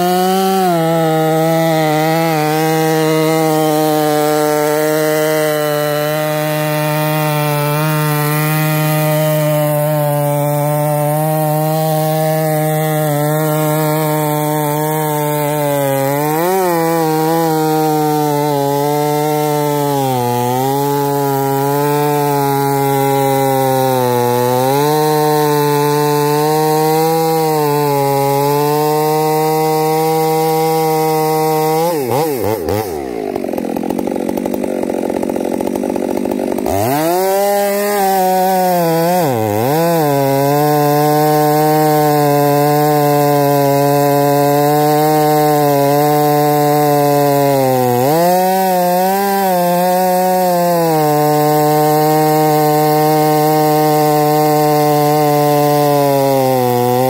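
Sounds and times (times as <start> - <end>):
chainsaw cutting into tree trunk: 0.0 - 57.0.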